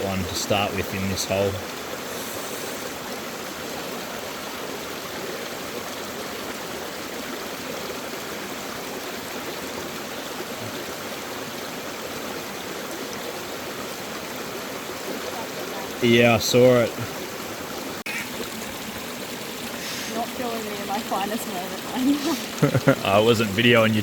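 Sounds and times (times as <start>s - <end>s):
mountain stream flowing: 0.0s - 24.0s.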